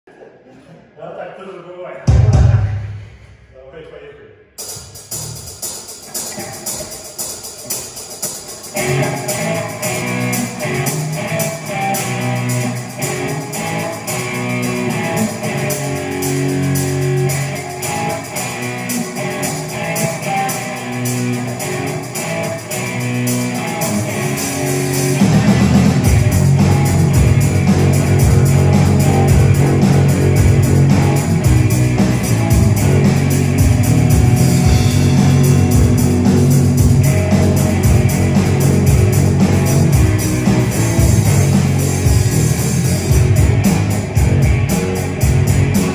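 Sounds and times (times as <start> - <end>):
drum kit steady beat: 2.1 - 3.6, 4.6 - 45.9
bass guitar: 5.1 - 45.9
electric guitar: 6.0 - 45.9.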